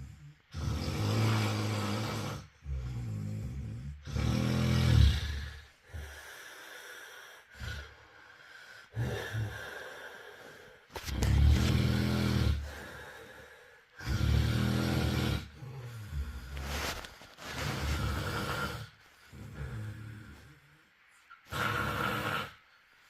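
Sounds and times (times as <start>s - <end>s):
person snoring: 0.0s - 20.8s, 21.4s - 22.7s.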